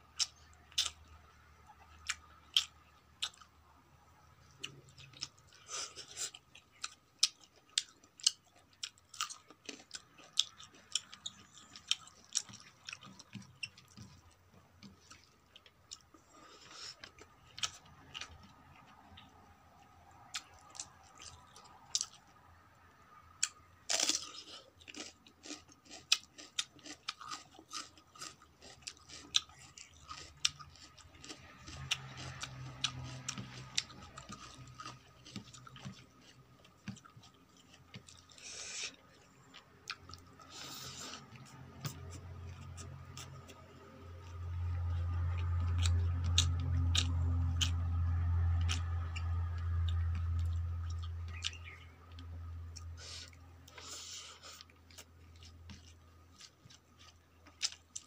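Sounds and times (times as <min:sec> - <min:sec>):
chewing with wet mouth clicks: 0:01.8 - 0:03.5, 0:04.5 - 0:19.4, 0:23.4 - 0:58.0.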